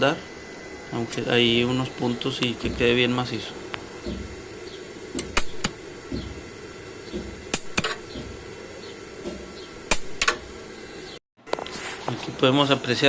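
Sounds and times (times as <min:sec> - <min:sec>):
steady low hum: 0:00.0 - 0:11.2
welding arc crackles: 0:01.1 - 0:13.0.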